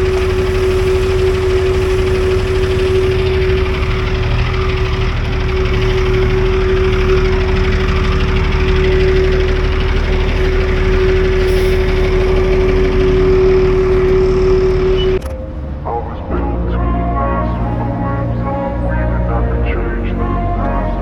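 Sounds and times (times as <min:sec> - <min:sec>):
road noise: 0:00.0 - 0:21.0
steady whine: 0:00.0 - 0:21.0
truck diesel engine running: 0:00.0 - 0:21.0.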